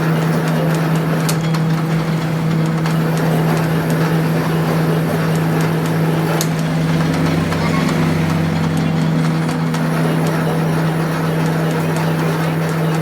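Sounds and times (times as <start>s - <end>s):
workshop machine humming: 0.0s - 13.0s.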